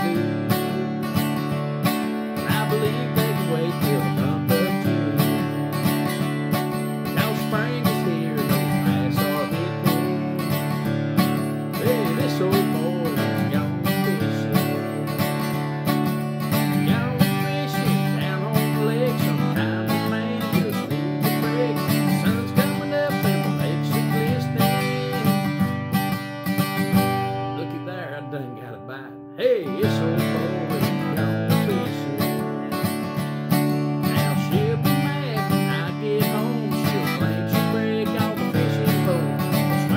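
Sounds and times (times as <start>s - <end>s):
acoustic guitar strumming: 0.0s - 39.9s
man singing country song: 0.0s - 39.9s.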